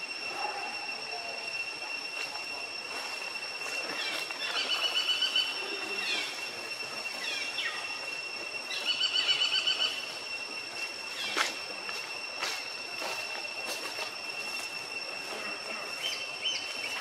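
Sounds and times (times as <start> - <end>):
pulsing bird trills: 0.0 - 12.9, 14.1 - 17.0
high-pitched insect drone: 0.0 - 17.0.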